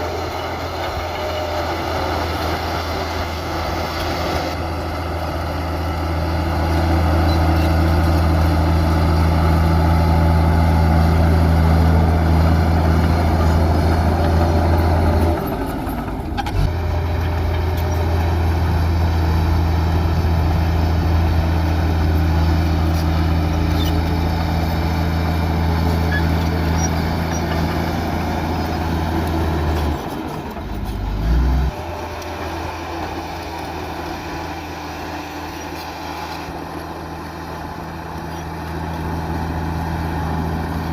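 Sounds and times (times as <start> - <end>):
heavy machinery diesel engine drone: 0.0 - 40.9.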